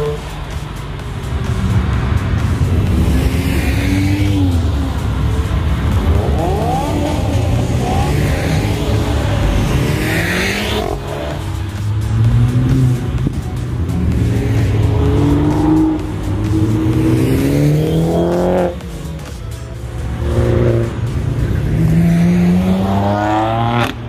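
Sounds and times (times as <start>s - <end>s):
background music: 0.0s - 24.0s
car engine accelerating: 0.0s - 24.0s.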